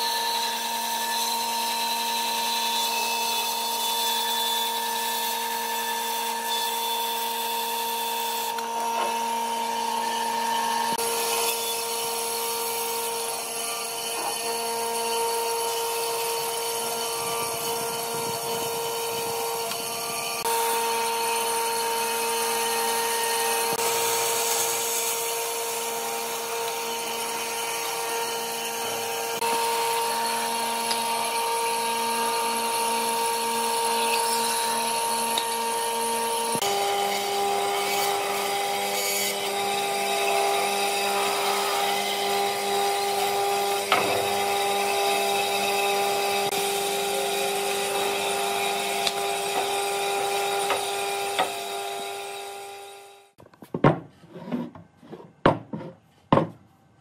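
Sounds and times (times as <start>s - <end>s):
bandsaw cutting wood: 0.0s - 53.4s.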